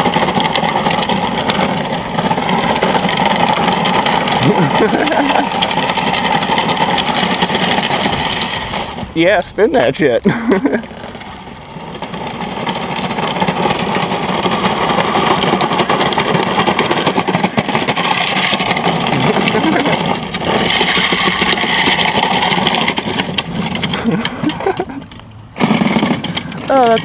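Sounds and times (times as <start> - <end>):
toy truck rolling and motor whine: 0.0 - 27.0.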